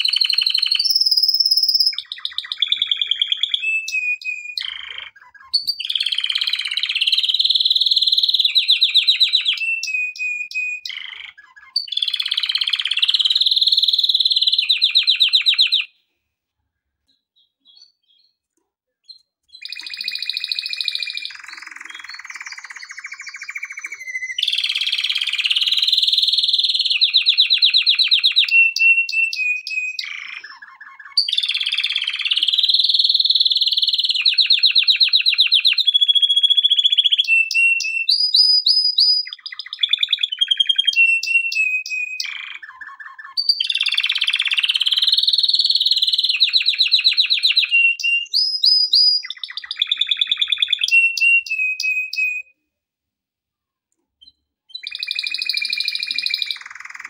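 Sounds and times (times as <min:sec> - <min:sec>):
canary singing trills: 0:00.0 - 0:16.0, 0:17.0 - 0:52.6, 0:54.2 - 0:57.0.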